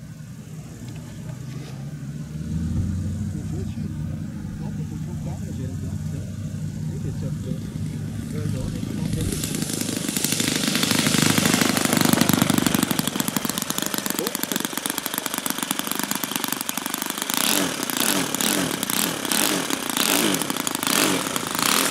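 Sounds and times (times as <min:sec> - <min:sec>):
model aircraft engine revving: 0:00.0 - 0:21.9.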